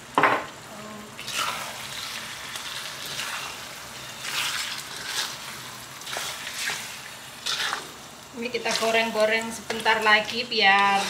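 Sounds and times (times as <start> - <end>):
sauce sizzling in oil: 0.0 - 11.0
spatula scraping a wok: 1.2 - 8.0, 8.6 - 11.0.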